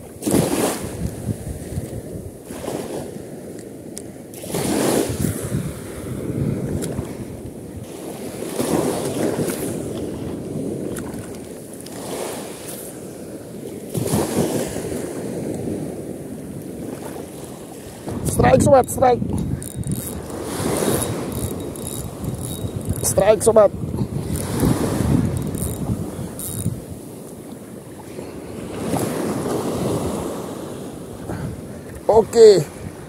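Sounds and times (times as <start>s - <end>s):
wind buffeting microphone: 0.0s - 3.5s, 4.4s - 11.6s, 13.1s - 33.0s
small waves washing on shore: 0.0s - 33.0s.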